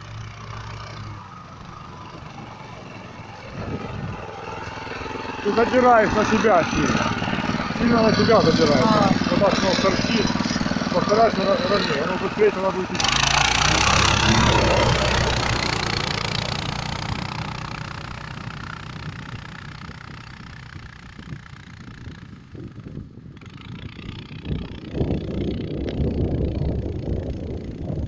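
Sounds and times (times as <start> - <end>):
small snowmobile engine running: 0.0 - 28.0.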